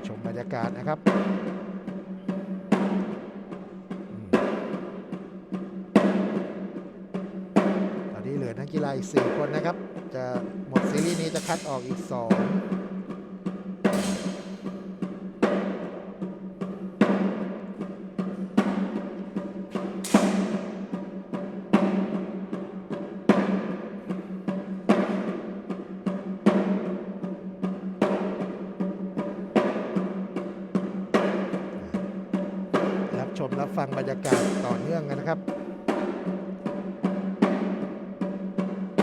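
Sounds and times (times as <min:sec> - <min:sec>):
slow heavy drum beat: 0:00.0 - 0:39.0.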